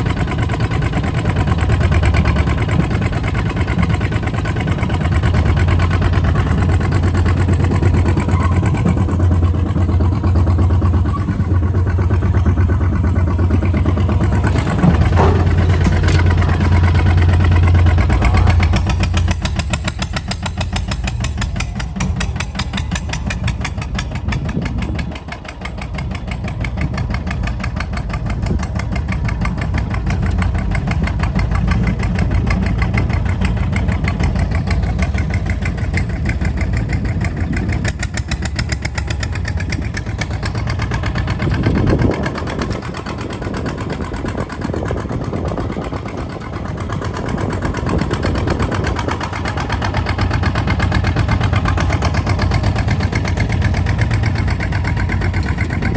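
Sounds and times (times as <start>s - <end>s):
diesel walking tractor engine: 0.0s - 55.9s.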